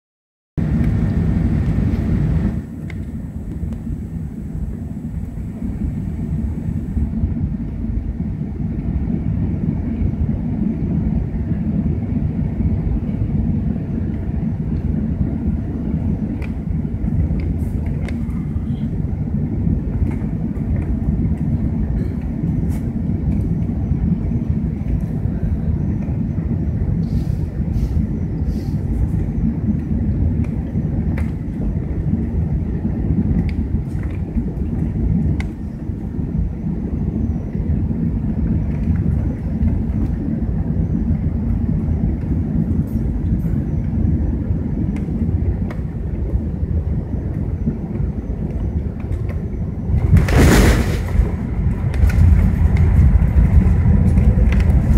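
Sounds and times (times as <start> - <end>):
airplane cabin rumble: 0.6 - 54.9.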